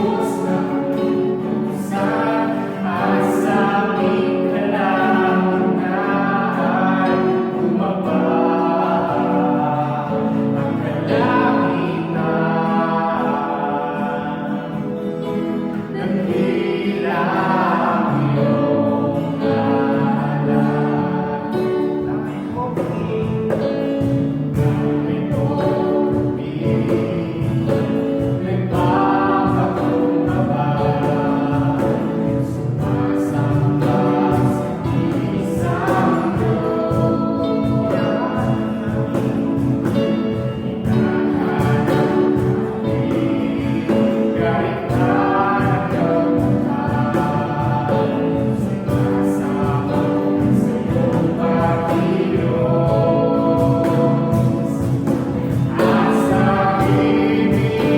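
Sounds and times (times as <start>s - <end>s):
group singing worship song: 0.0s - 57.9s.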